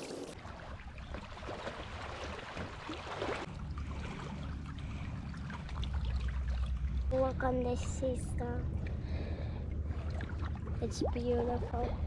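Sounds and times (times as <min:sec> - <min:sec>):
sea water lapping at shore: 0:00.0 - 0:12.0.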